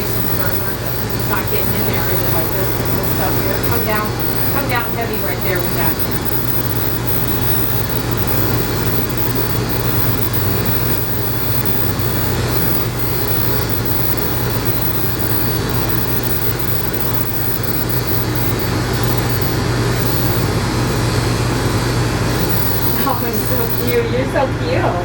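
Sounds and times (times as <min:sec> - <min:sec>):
electric clippers humming: 0:00.0 - 0:24.1.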